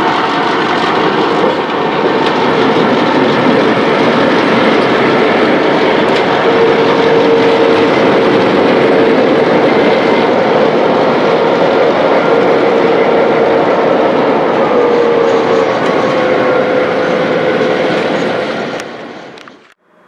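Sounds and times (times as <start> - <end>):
freight train wheels rumbling: 0.0 - 19.8
steady whine: 0.0 - 20.0.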